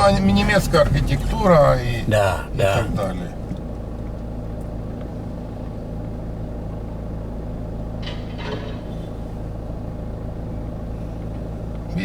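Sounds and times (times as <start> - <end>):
car engine hum: 0.0 - 12.0
road rumble inside car: 0.0 - 12.0.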